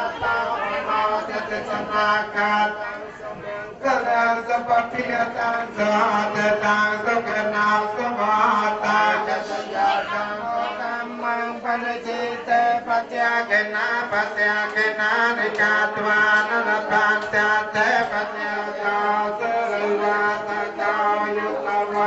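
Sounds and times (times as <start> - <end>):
person chanting: 0.0 - 22.0.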